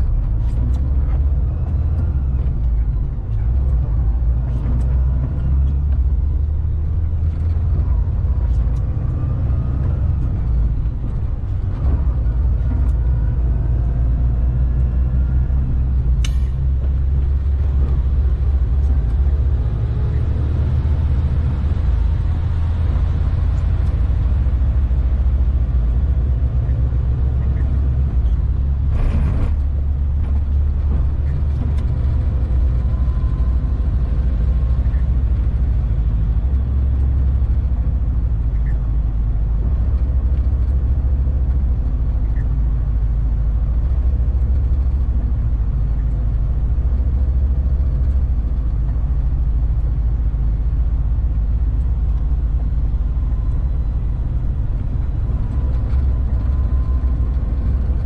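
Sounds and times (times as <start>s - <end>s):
truck engine and tyres rumbling: 0.0s - 58.0s.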